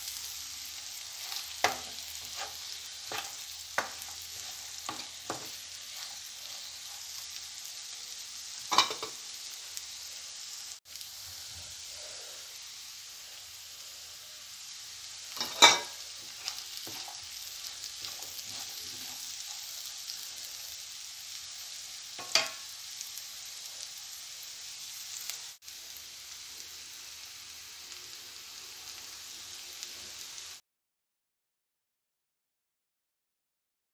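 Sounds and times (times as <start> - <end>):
vegetables sizzling in frying pan: 0.0 - 30.6.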